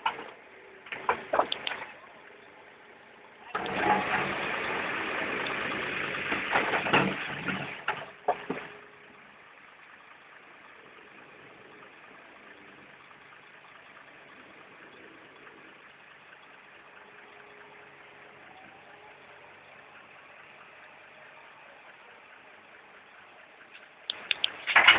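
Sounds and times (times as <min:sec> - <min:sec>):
faint low hum: 0:00.0 - 0:24.9.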